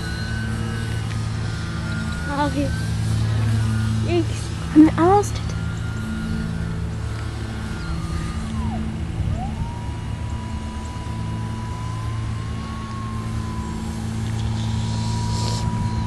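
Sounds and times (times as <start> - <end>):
model plane motor whining: 0.0 - 16.0
steady low hum: 0.0 - 16.0.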